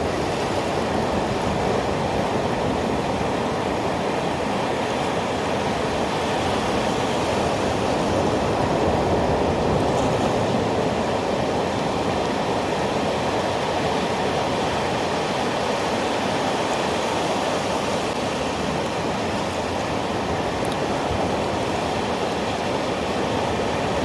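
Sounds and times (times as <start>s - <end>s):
surf washing on beach: 0.0s - 24.0s.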